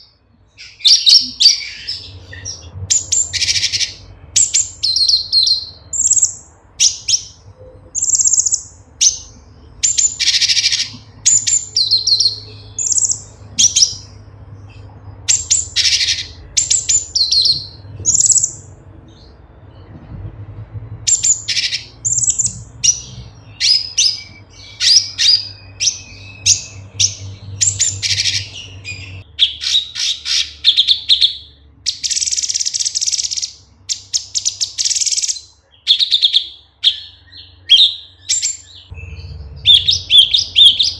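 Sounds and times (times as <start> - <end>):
bird singing chirps and whistles: 0.0 - 19.9, 21.1 - 40.9.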